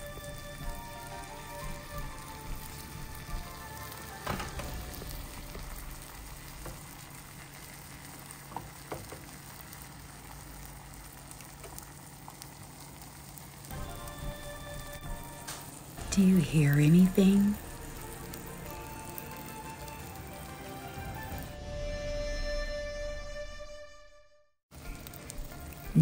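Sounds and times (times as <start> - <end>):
eggs sizzling in a pan: 0.0 - 22.3, 24.7 - 26.0.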